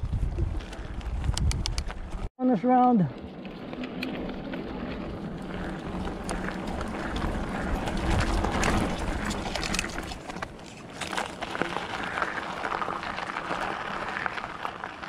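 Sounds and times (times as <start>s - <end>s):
bike clicks and rattles: 0.0s - 2.3s, 3.1s - 15.0s
tyre and wind noise: 0.0s - 2.3s, 3.2s - 15.0s.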